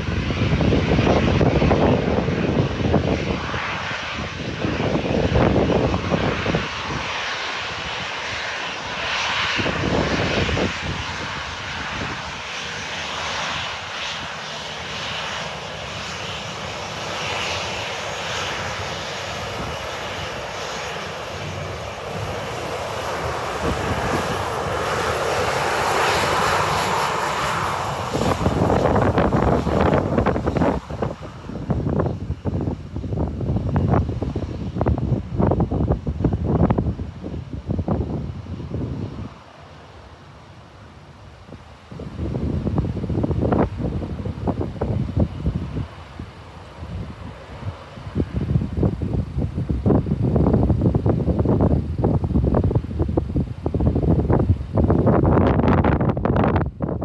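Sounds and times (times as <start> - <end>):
jet engine whine and rush: 0.0 - 57.0.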